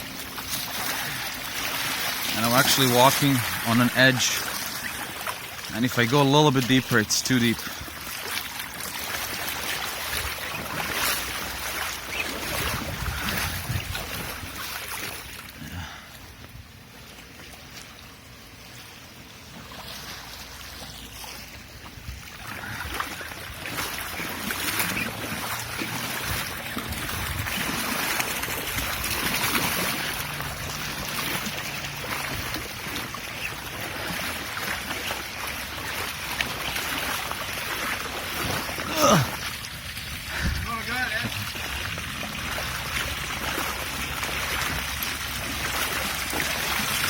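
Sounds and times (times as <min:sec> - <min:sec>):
floodwater splashing: 0:00.0 - 0:47.0.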